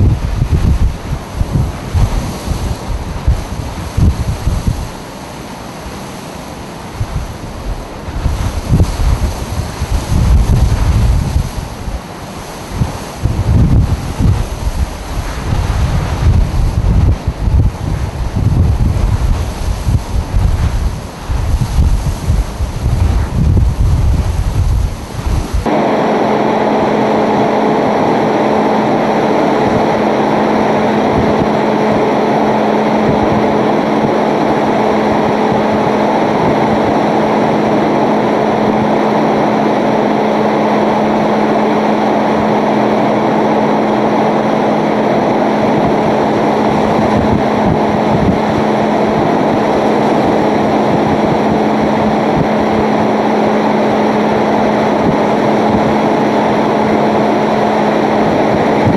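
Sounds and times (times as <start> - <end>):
low hum: 0.0 - 58.9
wind and rain rushing: 0.0 - 58.9
wind buffeting microphone: 0.0 - 58.9.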